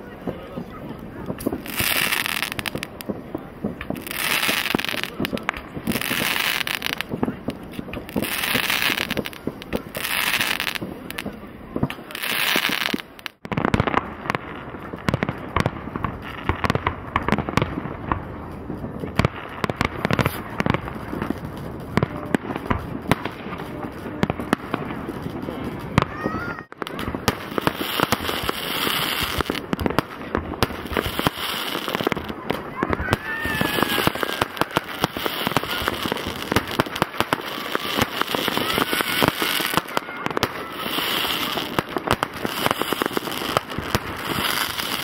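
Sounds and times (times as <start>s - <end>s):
fireworks bangs and crackling: 0.0s - 45.0s
fireworks hissing bursts: 0.0s - 45.0s.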